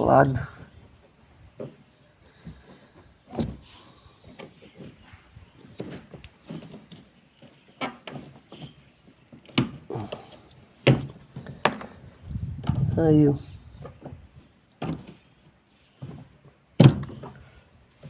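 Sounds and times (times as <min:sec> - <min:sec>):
knocks and scrapes on rubber: 0:00.5 - 0:13.0, 0:13.7 - 0:17.5.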